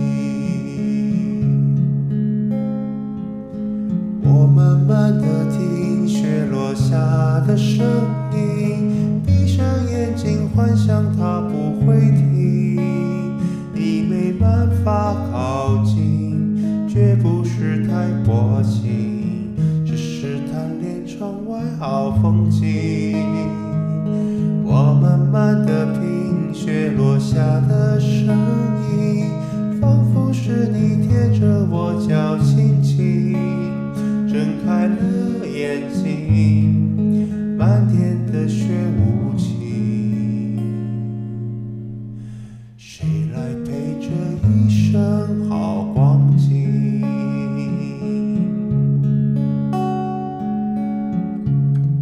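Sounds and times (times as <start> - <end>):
man singing with vibrato: 0.0 - 1.8, 4.2 - 41.1, 42.3 - 48.9
acoustic guitar chords: 0.0 - 52.0.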